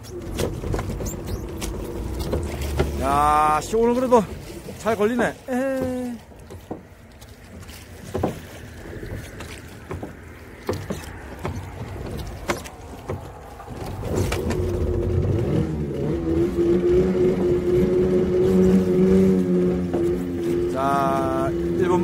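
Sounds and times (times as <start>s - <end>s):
knocks and clatter: 0.0s - 3.2s, 5.7s - 20.7s
outboard motor: 0.0s - 22.0s.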